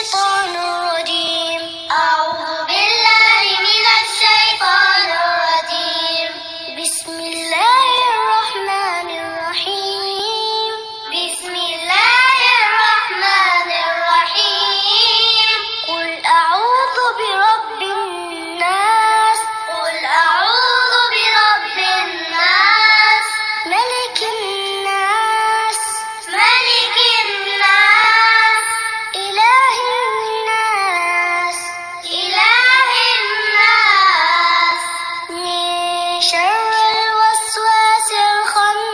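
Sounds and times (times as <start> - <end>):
high voice chanting: 0.0 - 38.9.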